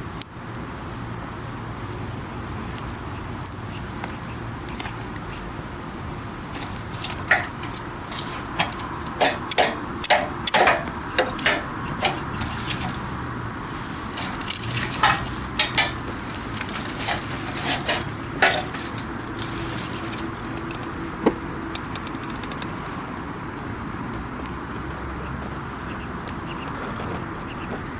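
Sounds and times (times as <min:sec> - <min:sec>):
campfire crackling and popping: 0:00.0 - 0:27.9
low noise of burning fire: 0:00.0 - 0:27.9.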